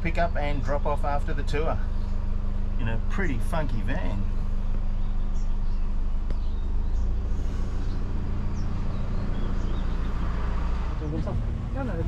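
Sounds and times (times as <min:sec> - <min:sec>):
road noise: 0:00.0 - 0:12.0
van engine droning: 0:00.0 - 0:12.0.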